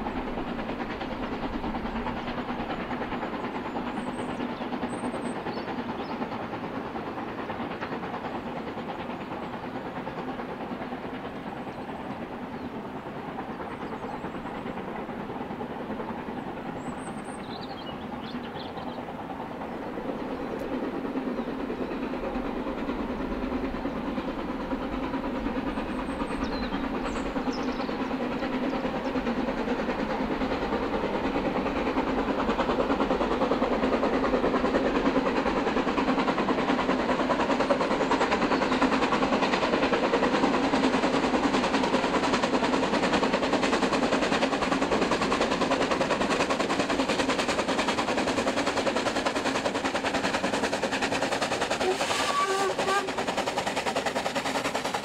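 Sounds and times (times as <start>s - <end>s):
steam locomotive exhaust: 0.0s - 55.0s.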